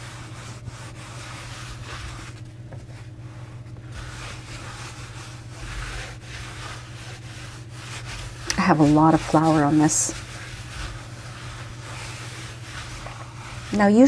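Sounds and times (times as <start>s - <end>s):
fabric brushing and rustling: 0.0s - 14.0s
hands rubbing flour into cloth: 0.0s - 14.0s.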